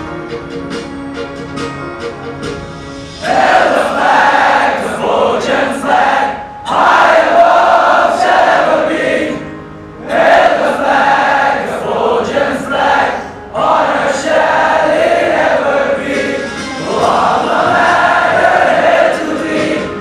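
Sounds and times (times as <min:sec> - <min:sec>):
choir singing an anthem: 0:03.2 - 0:20.0.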